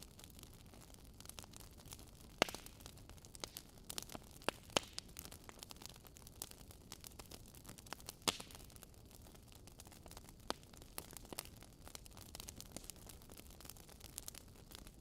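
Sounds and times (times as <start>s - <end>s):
fire popping: 0.0s - 15.0s
logs crackling in a fireplace: 0.0s - 15.0s.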